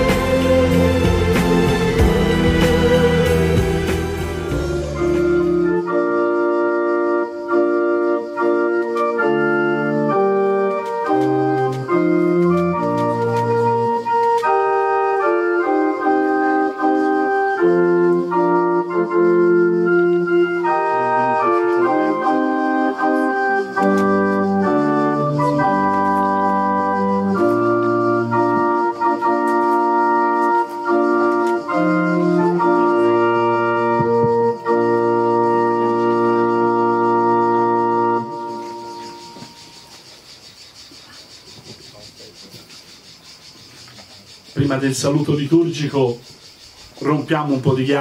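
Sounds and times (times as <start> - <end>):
organ playing sustained chords: 0.0 - 48.0.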